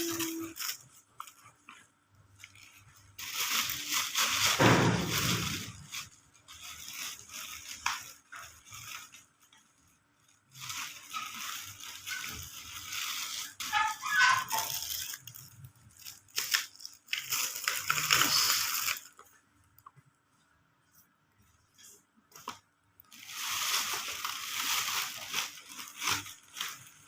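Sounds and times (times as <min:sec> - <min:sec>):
plastic packaging crinkling: 0:00.0 - 0:19.8, 0:22.3 - 0:27.0.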